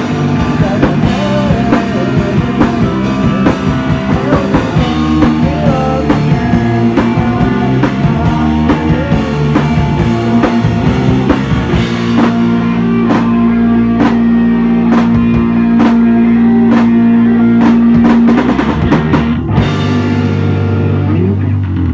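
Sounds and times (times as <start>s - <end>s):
live rock band playing: 0.0s - 21.9s.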